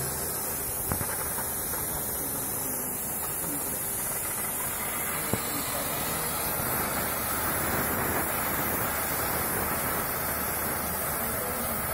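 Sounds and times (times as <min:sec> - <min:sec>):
cutting torch hissing: 0:00.0 - 0:11.9.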